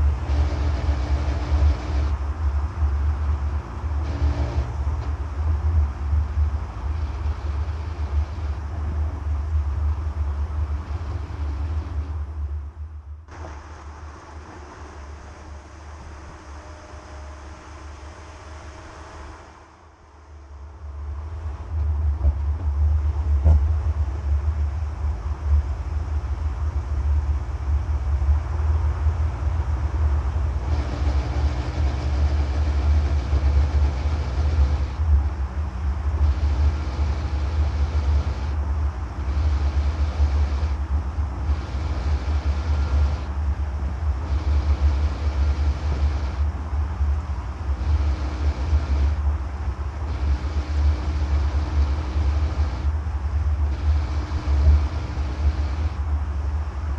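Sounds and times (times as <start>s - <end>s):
faint whining tone: 0.0s - 56.9s
truck drivetrain drone: 0.0s - 56.9s.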